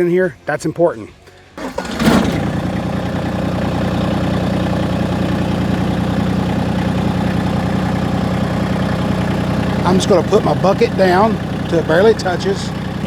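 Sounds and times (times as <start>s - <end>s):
tractor diesel engine idling: 1.6s - 13.0s.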